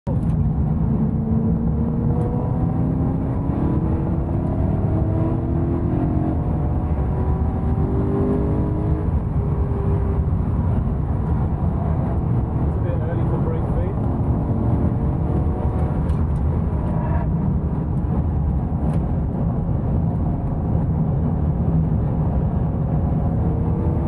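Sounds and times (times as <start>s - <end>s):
road and wind noise: 0.0s - 24.0s
car engine running hard: 0.1s - 24.0s.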